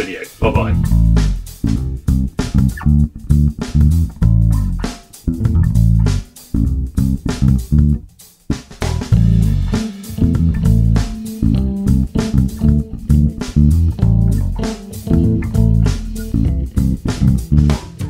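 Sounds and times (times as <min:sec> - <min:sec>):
funky bass and guitar groove: 0:00.0 - 0:18.0.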